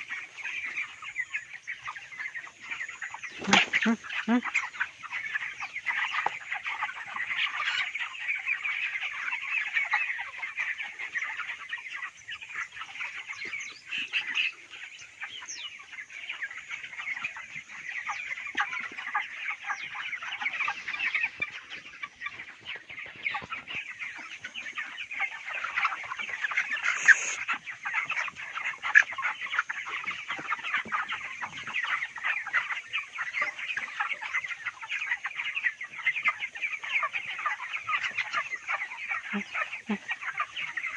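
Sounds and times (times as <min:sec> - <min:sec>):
chickens calling: 0:00.0 - 0:40.9.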